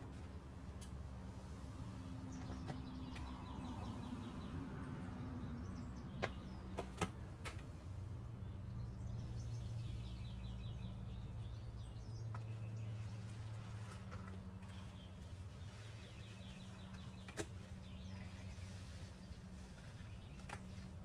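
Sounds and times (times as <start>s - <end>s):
songbirds chirping: 0.0s - 21.0s
rapid trilled birdsong: 2.2s - 7.0s, 8.3s - 21.0s.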